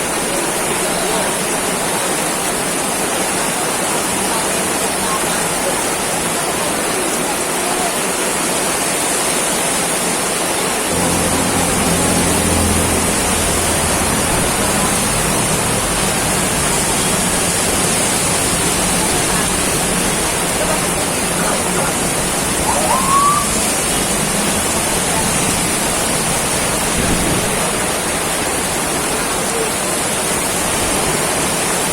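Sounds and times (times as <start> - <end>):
heavy rain hissing: 0.0 - 31.9.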